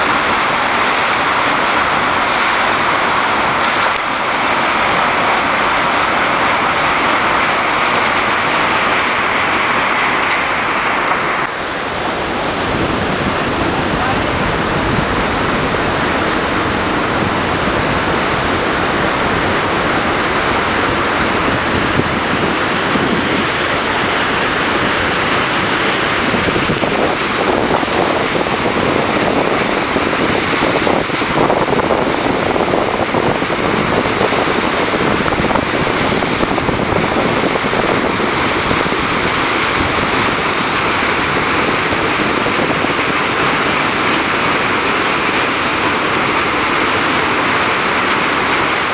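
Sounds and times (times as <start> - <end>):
water rushing through dam spillway: 0.0 - 48.9.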